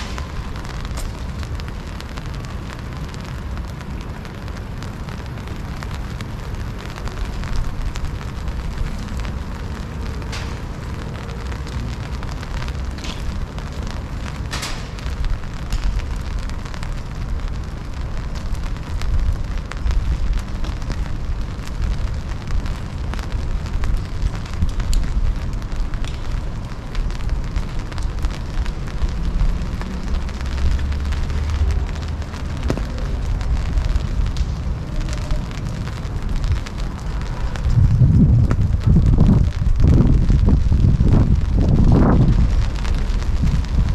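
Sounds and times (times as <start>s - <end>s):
rain dripping: 0.0s - 43.9s
steady low rumble: 0.0s - 43.9s
wind buffeting microphone: 0.0s - 43.9s.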